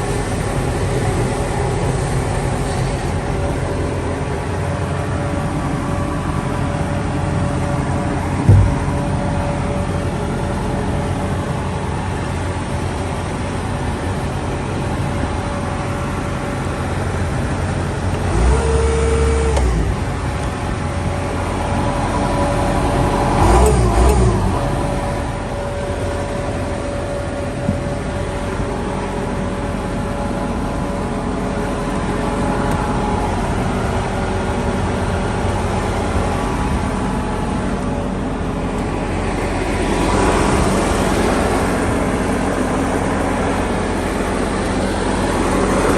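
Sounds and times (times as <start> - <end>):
track loader diesel engine running: 0.0 - 45.9.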